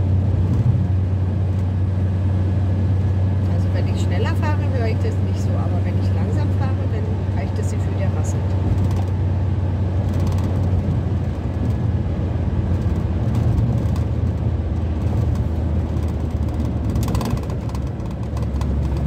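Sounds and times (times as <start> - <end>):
road and tyre noise: 0.0 - 19.0
van engine drone: 0.0 - 19.0.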